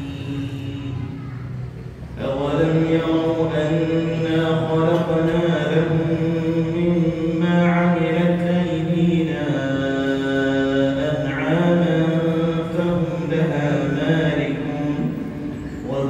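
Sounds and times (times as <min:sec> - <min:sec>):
man chanting: 0:00.0 - 0:01.3, 0:02.2 - 0:16.0.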